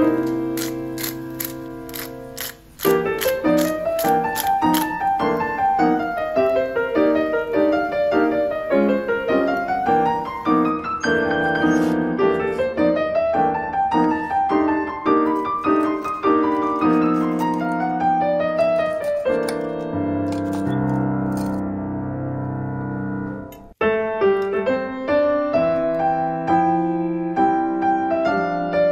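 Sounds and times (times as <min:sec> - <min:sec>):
piano music: 0:00.0 - 0:28.9.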